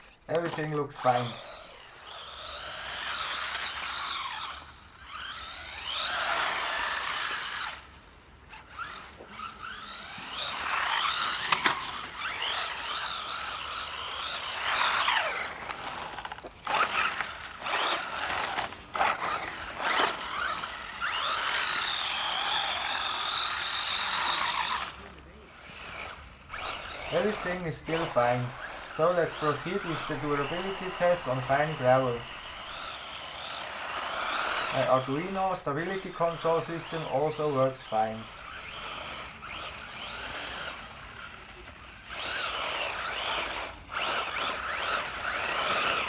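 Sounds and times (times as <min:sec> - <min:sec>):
toy truck motor whine: 0:00.0 - 0:46.0.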